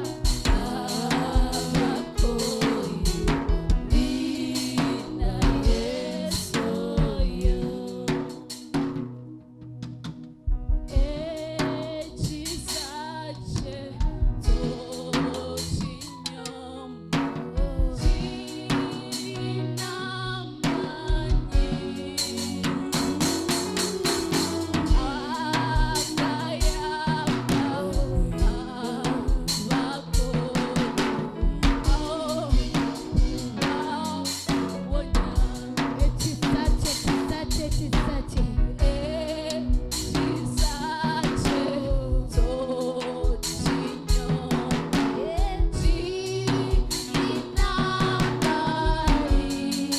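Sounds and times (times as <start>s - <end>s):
voices singing: 0.0s - 9.0s, 10.9s - 49.9s
drum kit beat: 0.0s - 9.1s, 10.0s - 16.4s, 17.1s - 49.9s.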